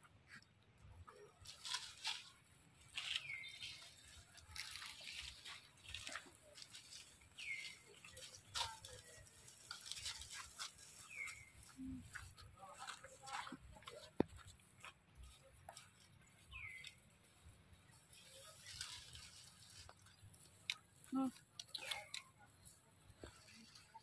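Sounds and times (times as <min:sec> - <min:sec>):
rustling in dry leaves: 0:01.2 - 0:14.1, 0:15.2 - 0:24.0.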